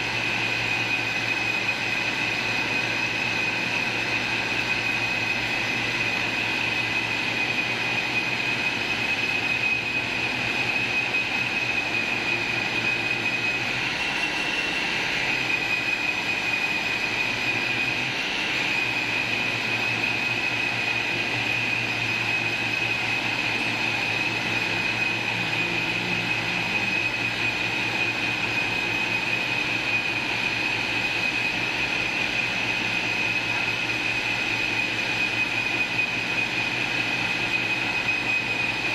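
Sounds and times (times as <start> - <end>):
grooving machine motor whine: 0.0 - 38.9.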